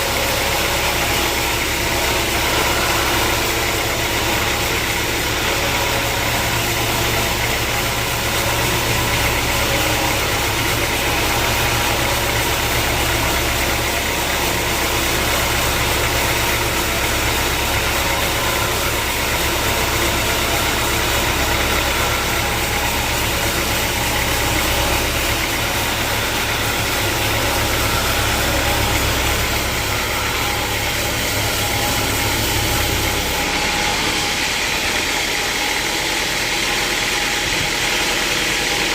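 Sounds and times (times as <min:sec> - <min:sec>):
sawmill motor drone: 0:00.0 - 0:38.9.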